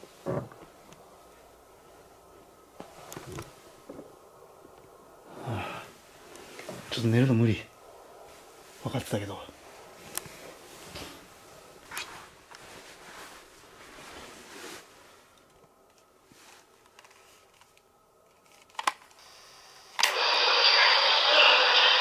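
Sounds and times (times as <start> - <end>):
loud steady hiss from speaker: 0.0 - 22.0.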